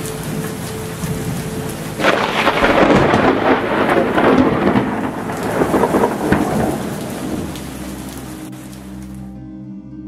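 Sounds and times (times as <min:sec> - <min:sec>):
thunder rumbling and crackling: 0:00.0 - 0:08.9
falling rain: 0:00.0 - 0:09.3.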